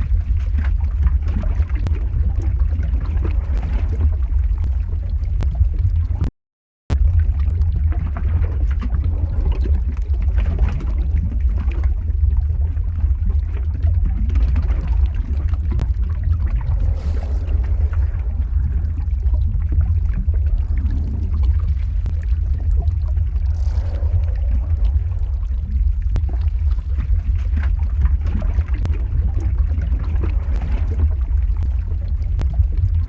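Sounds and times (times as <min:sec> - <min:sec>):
deep rumble: 0:00.0 - 0:06.3, 0:06.9 - 0:33.0
lava crackles: 0:00.0 - 0:06.3, 0:06.9 - 0:33.0
lava pouring and gurgling: 0:00.0 - 0:06.3, 0:06.9 - 0:33.0.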